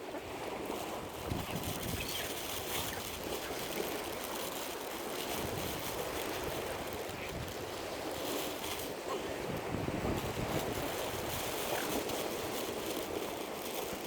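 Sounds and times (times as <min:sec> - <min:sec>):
steady wind: 0:00.0 - 0:14.0
wind rumbling on microphone: 0:00.1 - 0:14.0.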